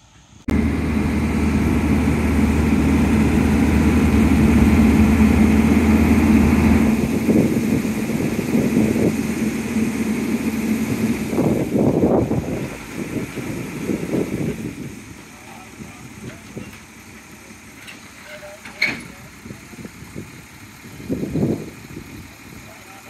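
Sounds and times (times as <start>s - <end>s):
crane truck engine running: 0.1s - 23.0s.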